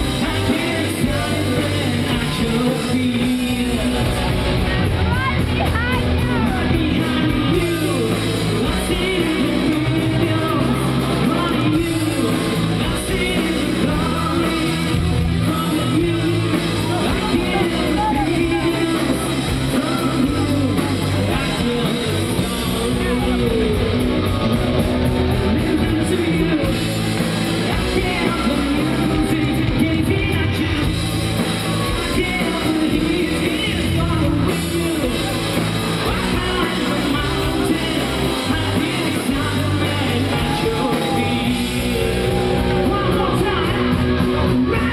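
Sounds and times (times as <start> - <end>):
electric guitar: 0.0 - 44.9
live rock band playing: 0.0 - 44.9
person singing: 0.0 - 44.9.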